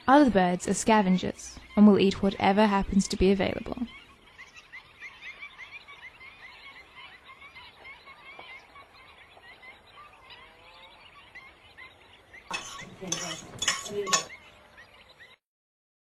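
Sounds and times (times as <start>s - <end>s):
small birds chirping: 0.0s - 15.4s.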